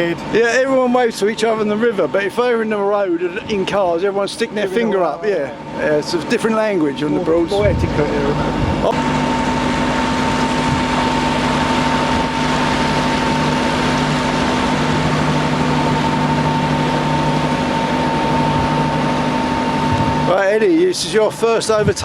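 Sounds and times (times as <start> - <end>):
boat engine humming with whine: 0.0 - 22.0.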